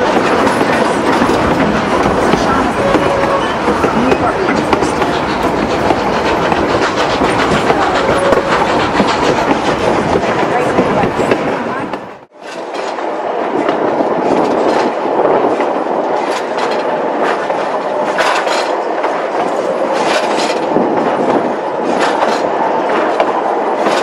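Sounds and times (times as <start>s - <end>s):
wheels clicking over rails: 0.0s - 13.0s, 13.6s - 24.0s
train rumble: 0.0s - 24.0s.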